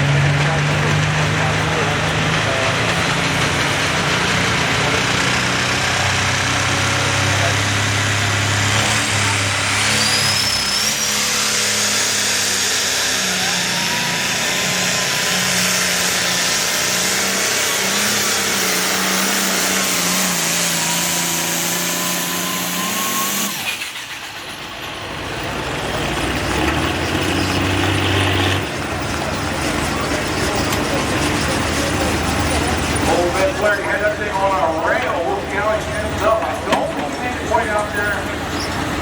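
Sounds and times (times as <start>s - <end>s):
diesel tractor engine under load: 0.0s - 39.0s
high turbo whine: 0.0s - 39.0s.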